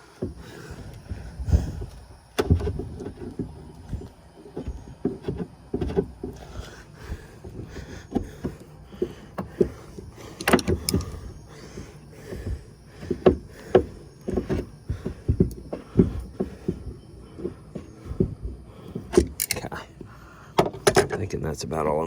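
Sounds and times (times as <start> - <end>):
knocks bumps and rubbing: 0.0 - 22.0.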